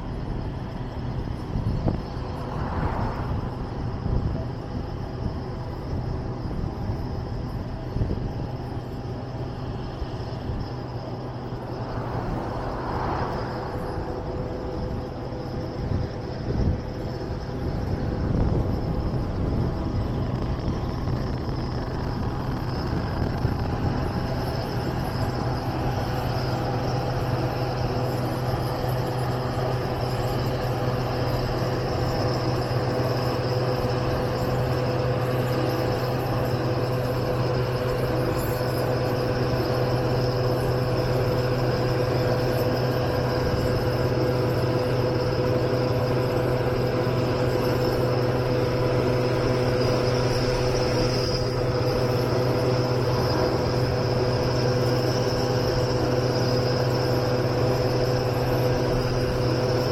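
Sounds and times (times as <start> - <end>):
car engine and tyre noise: 0.0 - 59.9
faint steady whine: 0.0 - 59.9.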